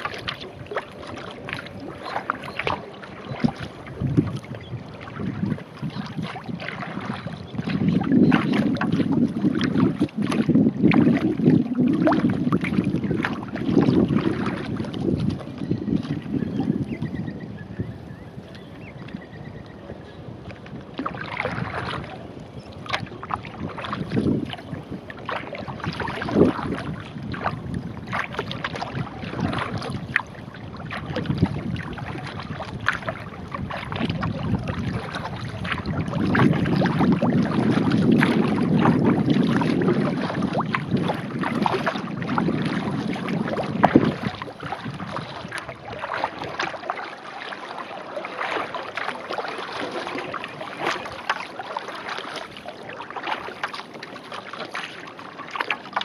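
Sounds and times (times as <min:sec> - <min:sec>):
paddle splashing in water: 0:00.0 - 0:56.0.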